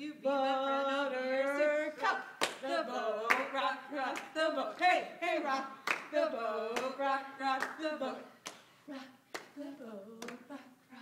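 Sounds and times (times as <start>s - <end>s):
girls singing a chant: 0.0s - 11.0s.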